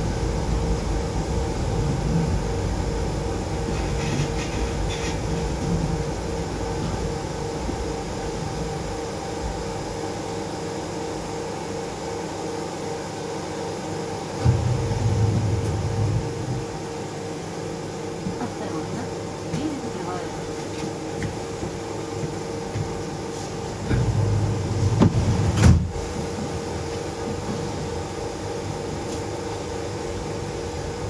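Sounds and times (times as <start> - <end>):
steady pulsing hum: 0.0 - 31.0
train low rumble: 0.0 - 31.0.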